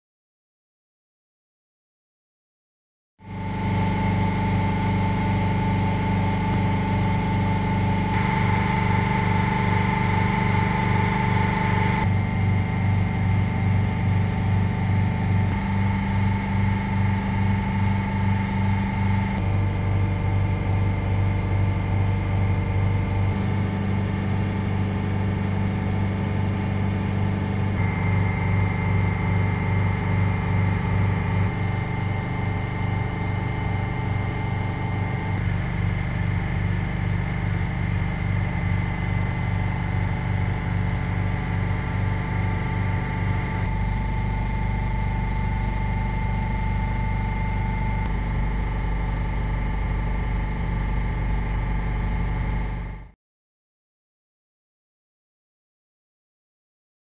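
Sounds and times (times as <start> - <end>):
compressors pulsing hum: 3.2 - 53.1
faint high whine: 3.3 - 53.2.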